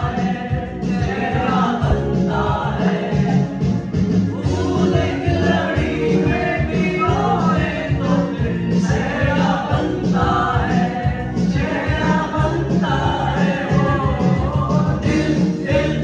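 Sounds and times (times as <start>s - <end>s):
men singing together: 0.0s - 16.0s
music with steady beat: 0.0s - 16.0s.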